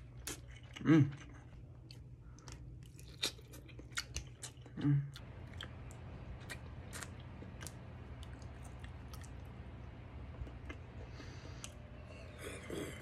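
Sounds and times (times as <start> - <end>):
person chewing: 0.0 - 9.5, 10.2 - 13.0
steady low hum: 0.0 - 13.0.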